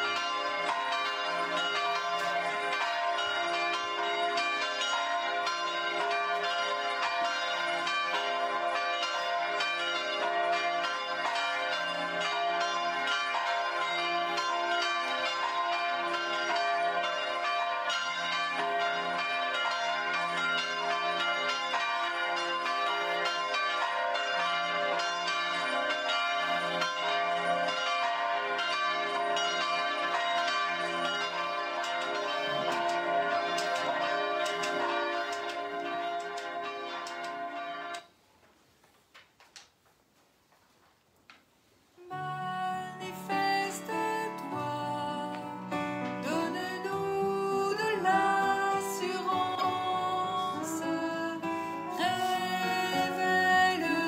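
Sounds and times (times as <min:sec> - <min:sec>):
church bells ringing a peal: 0:00.0 - 0:38.1, 0:42.2 - 0:54.0.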